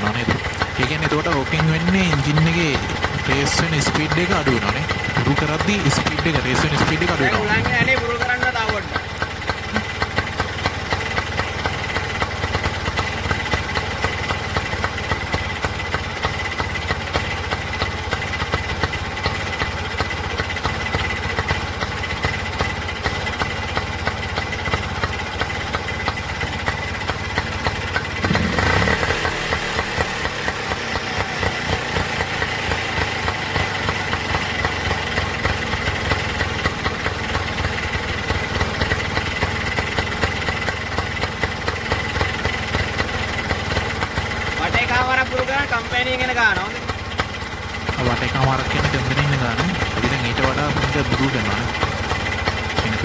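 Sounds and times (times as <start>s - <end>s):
two-stroke engine idling: 0.0s - 53.0s.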